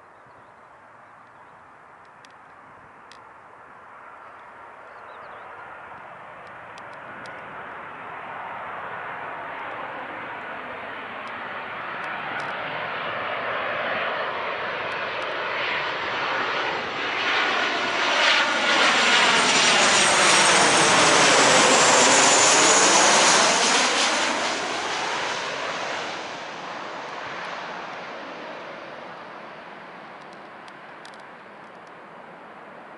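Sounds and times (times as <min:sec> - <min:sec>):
jet airliner passing overhead: 0:00.6 - 0:32.9.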